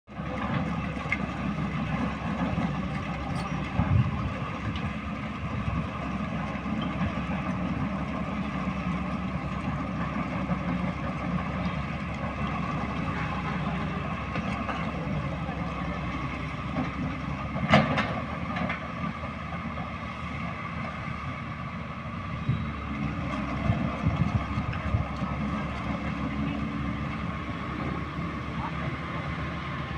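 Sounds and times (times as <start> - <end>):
truck engine running: 0.1 - 29.9.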